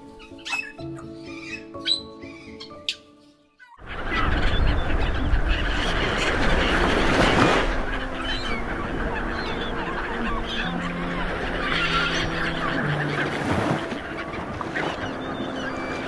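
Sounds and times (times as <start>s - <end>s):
flock of water birds calling: 0.0s - 16.0s.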